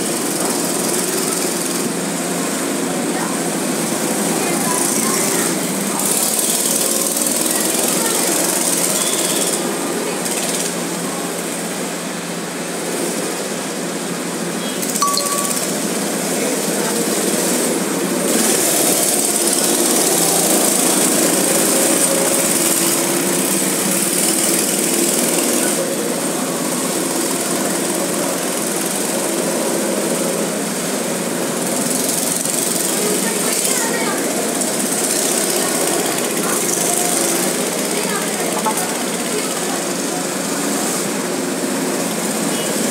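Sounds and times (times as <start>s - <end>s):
go-kart engines running: 0.0s - 42.9s.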